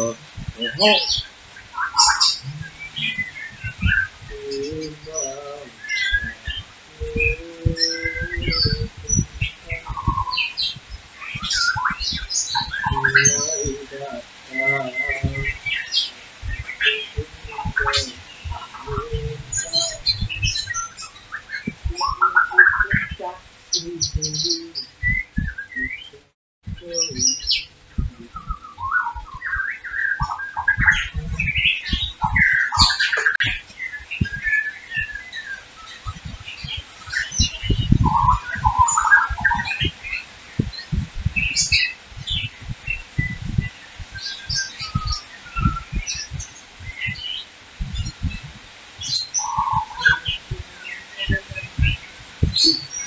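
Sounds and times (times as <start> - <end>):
birds chirping and twittering: 0.0 - 53.0
low thuds: 0.0 - 53.0.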